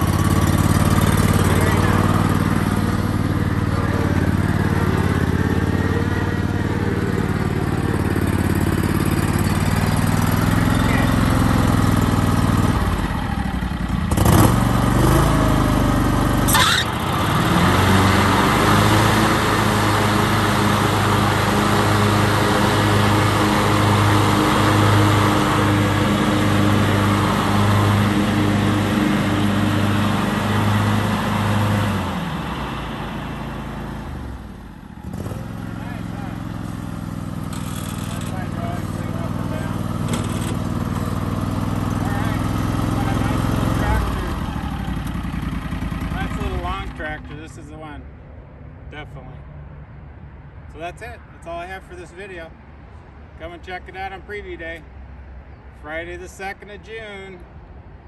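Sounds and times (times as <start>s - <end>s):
lawn tractor engine running: 0.0s - 47.4s.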